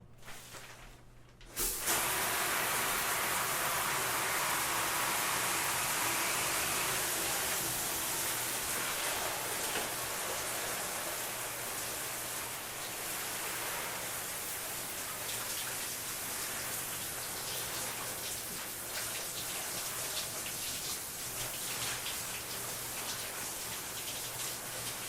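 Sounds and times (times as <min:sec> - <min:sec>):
shower water spraying: 0:01.5 - 0:25.0.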